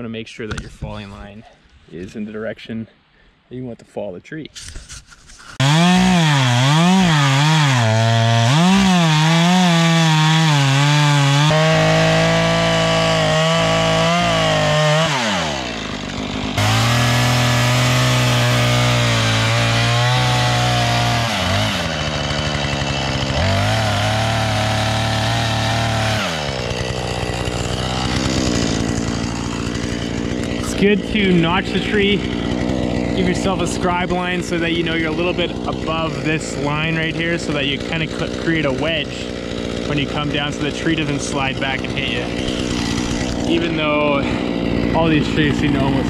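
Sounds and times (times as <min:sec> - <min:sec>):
chainsaw cutting wood: 0:04.8 - 0:46.0.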